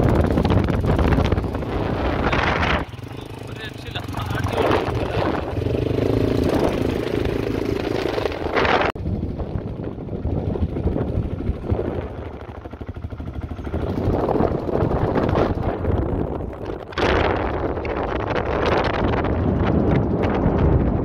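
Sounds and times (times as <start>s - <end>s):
quad bike engine running: 0.0s - 21.0s
rough rushing noise: 0.0s - 21.0s.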